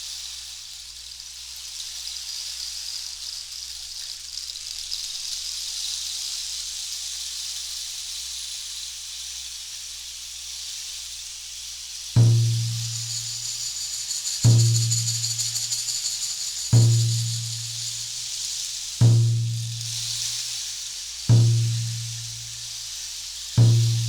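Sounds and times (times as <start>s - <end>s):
rain stick pebbles trickling: 0.1s - 24.0s.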